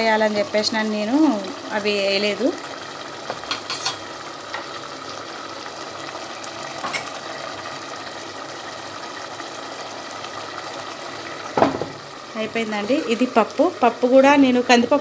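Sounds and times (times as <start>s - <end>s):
curry bubbling in a pot: 0.0s - 14.8s.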